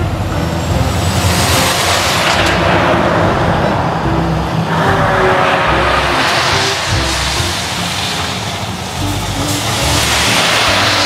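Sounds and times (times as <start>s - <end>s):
trucks driving past: 0.0s - 11.0s.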